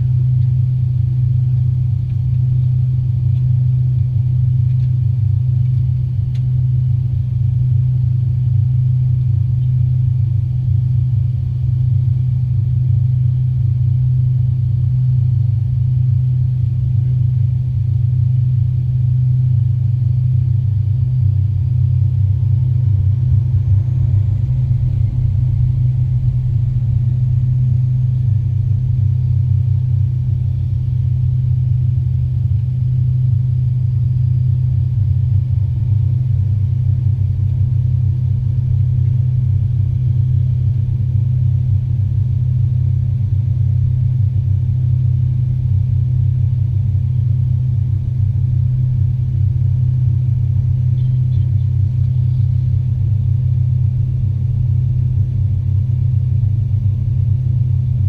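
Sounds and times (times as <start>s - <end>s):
airliner cabin engine drone: 0.0s - 58.0s
faint high whine: 0.0s - 58.0s.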